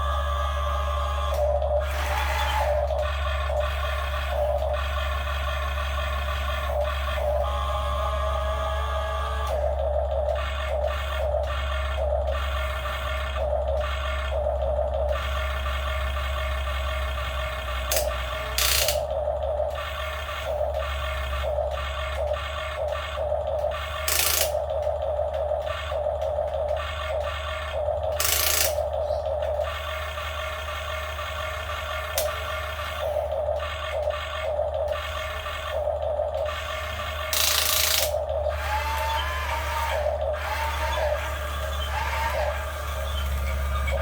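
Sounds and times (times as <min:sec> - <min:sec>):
model excavator motors whirring: 0:00.0 - 0:44.0.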